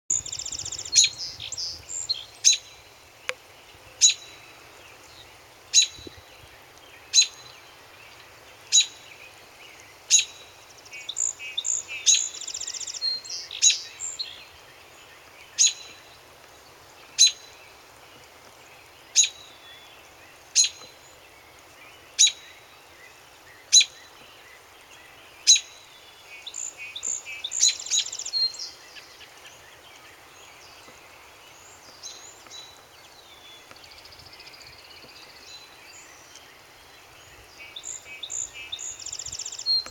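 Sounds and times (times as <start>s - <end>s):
birds warbling song: 0.1s - 39.9s.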